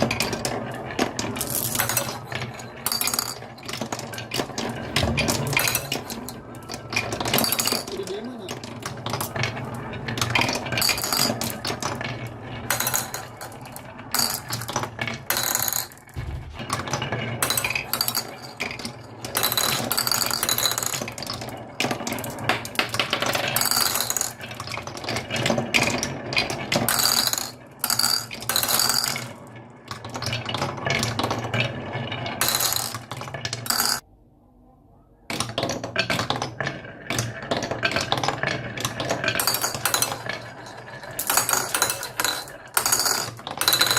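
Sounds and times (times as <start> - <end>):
glass marbles rattling down wooden run: 0.0 - 16.2, 16.8 - 34.0, 35.4 - 43.9.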